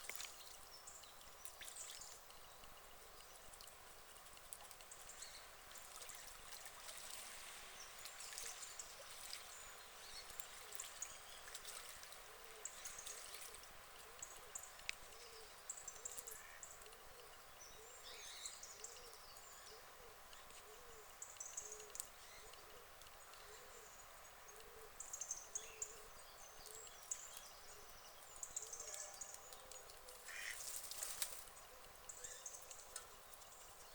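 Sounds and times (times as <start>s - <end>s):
trickling water: 0.0s - 33.9s.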